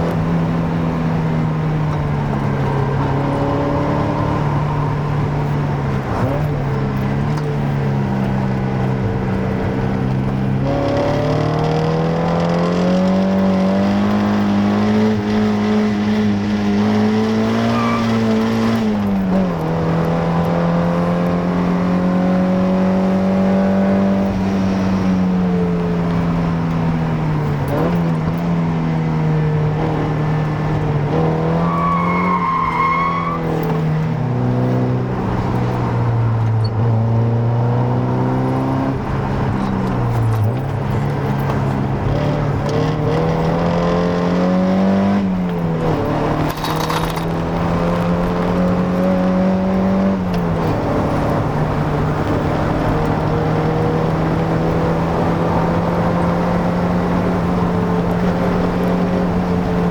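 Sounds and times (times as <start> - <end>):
car engine driving: 0.0 - 59.9.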